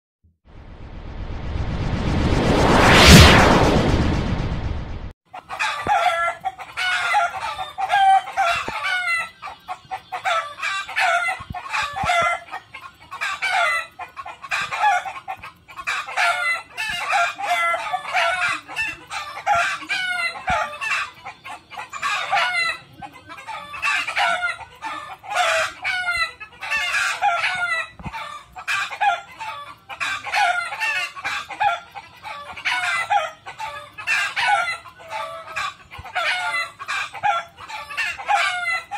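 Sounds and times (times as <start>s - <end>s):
hens clucking: 5.4s - 38.9s
roosters crowing: 5.4s - 38.9s.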